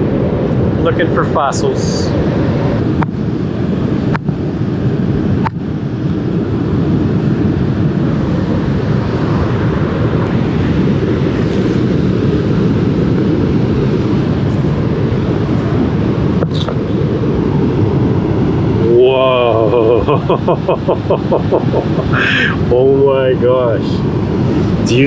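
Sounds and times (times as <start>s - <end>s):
beach surf: 0.0s - 25.0s
wind rumbling on microphone: 0.0s - 25.0s.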